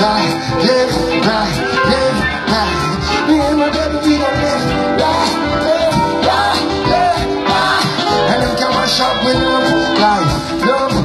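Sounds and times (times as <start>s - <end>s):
deep bass line: 0.0s - 11.0s
live reggae band: 0.0s - 11.0s
person singing: 0.0s - 11.0s
steady drum beat: 0.0s - 11.0s.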